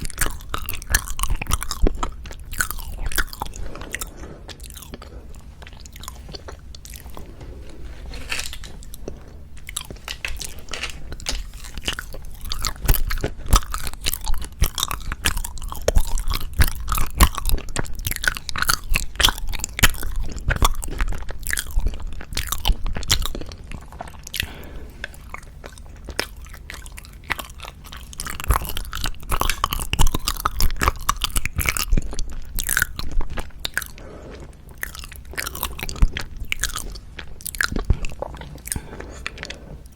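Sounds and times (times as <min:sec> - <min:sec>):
chewing with wet mouth clicks: 0:00.0 - 0:39.9.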